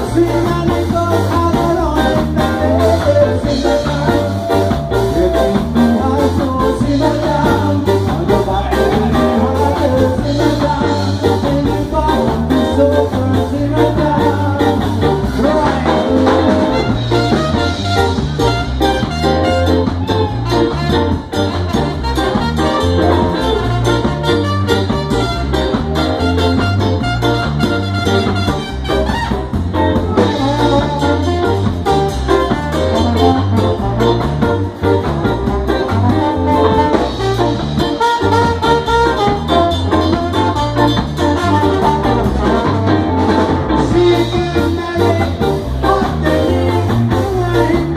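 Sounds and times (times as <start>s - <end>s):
ska band with horn section: 0.0s - 47.9s.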